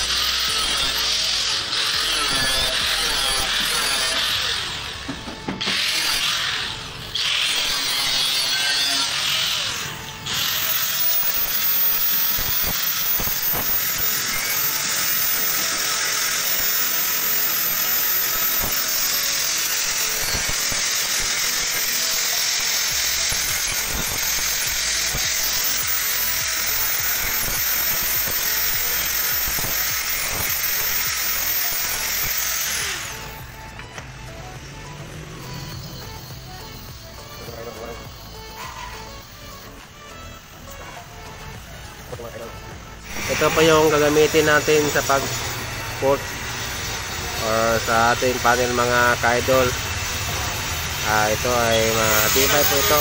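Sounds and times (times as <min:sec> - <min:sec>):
angle grinder cutting sheet steel: 0:00.0 - 0:53.0.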